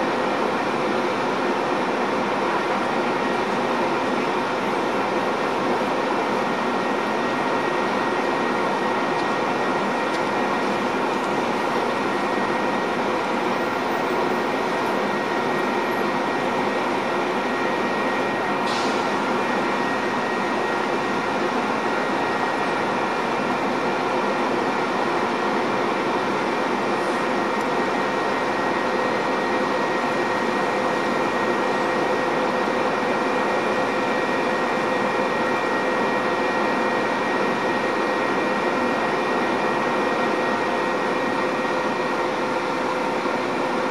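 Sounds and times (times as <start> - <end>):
diesel train engine droning: 0.0 - 43.9.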